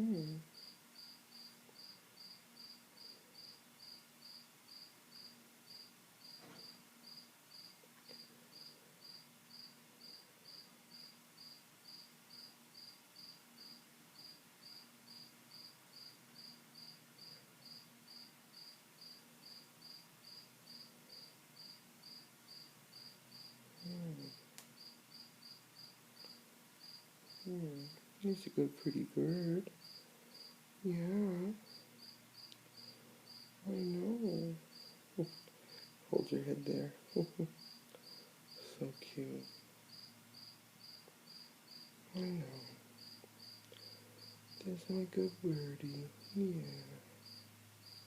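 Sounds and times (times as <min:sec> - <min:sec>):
cricket chirping: 0:00.0 - 0:48.0.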